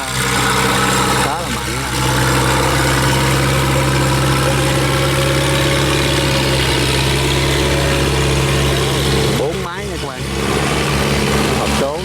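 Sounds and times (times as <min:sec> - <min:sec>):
barge diesel engine humming: 0:00.0 - 0:12.0.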